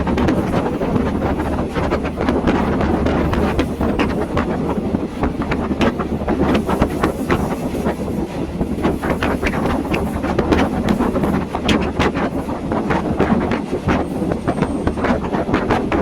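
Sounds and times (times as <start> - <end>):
train rumbling on rails: 0.0 - 16.0
wheels clicking and knocking: 0.0 - 16.0
wind on microphone: 0.0 - 16.0.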